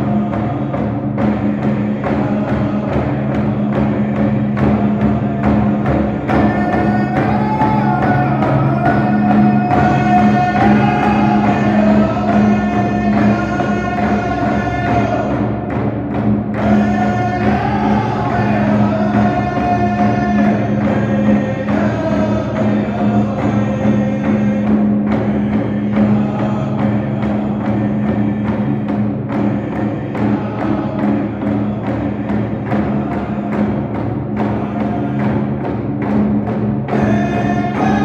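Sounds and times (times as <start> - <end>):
large drum beating: 0.0 - 38.0.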